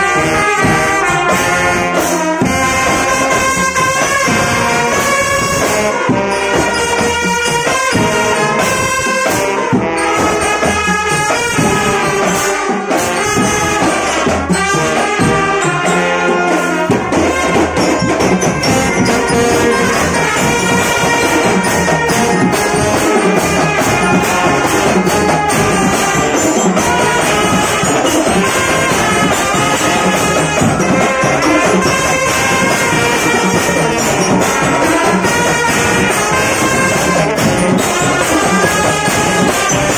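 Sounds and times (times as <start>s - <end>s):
snare and bass drums: 0.0s - 39.9s
trumpets and brass: 0.0s - 39.9s.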